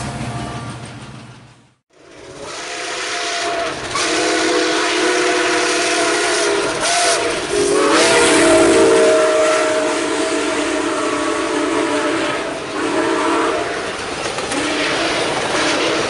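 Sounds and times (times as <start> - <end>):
steam hiss and running gear: 2.0 - 16.0
steam locomotive whistle: 2.0 - 16.0.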